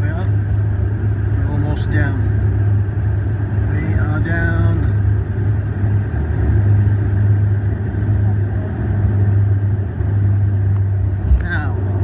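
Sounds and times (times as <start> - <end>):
airliner engine drone: 0.0 - 12.0.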